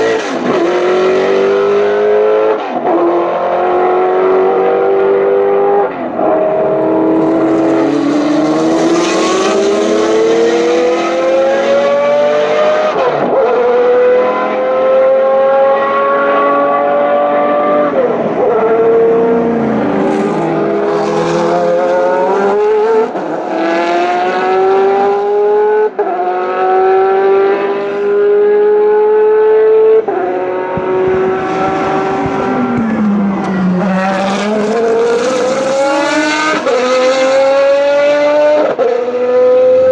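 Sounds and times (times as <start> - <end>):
race car engines accelerating: 0.0 - 39.9.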